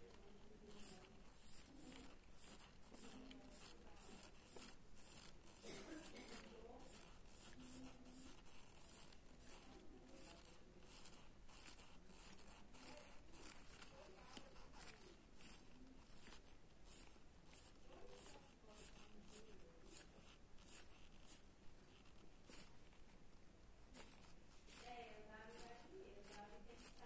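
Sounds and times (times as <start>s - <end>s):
pencil scratching on paper: 0.0s - 27.0s.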